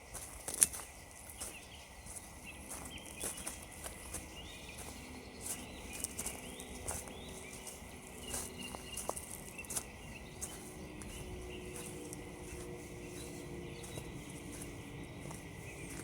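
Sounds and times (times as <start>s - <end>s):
faint birdsong: 0.0s - 16.0s
footsteps crunching on frost: 0.0s - 16.0s.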